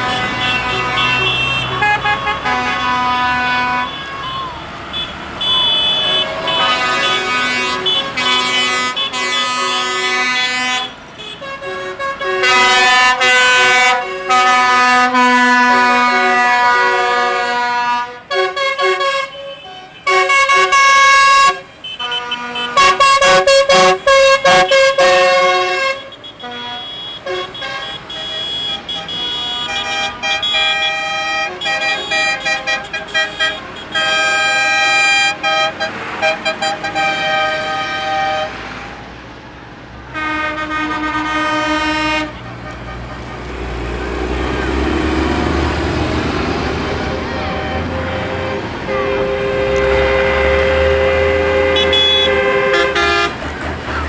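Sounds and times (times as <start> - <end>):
vehicle horns blasting and tooting: 0.0 - 39.0, 40.1 - 54.0.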